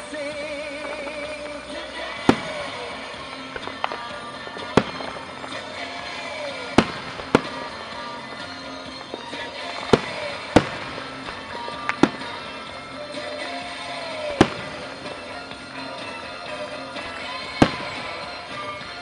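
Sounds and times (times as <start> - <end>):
faint fireworks pops: 0.0 - 19.0
fireworks shells booming: 0.0 - 19.0
music from a radio: 0.0 - 19.0.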